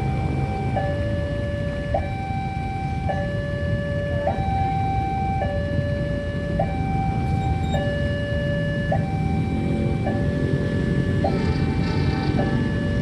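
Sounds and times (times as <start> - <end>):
level crossing hi-lo siren: 0.0 - 13.0.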